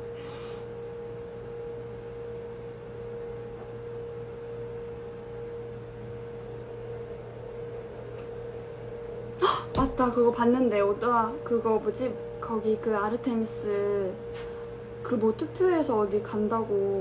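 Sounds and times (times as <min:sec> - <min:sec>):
mid-pitched hum: 0:00.0 - 0:17.0.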